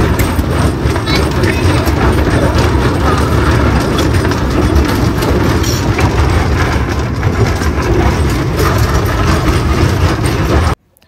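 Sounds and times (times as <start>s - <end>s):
train rumble: 0.0s - 10.8s
wheel and carriage clicks and rattles: 0.0s - 10.8s.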